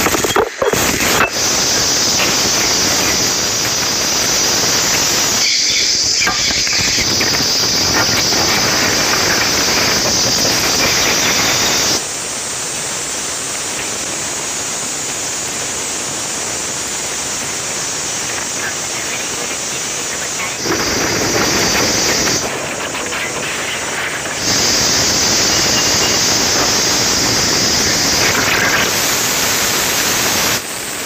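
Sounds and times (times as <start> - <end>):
steady hissing noise: 0.0 - 31.0.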